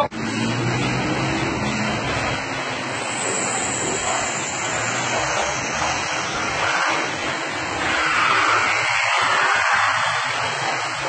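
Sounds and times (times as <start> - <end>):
water spraying hiss: 1.6 - 11.0.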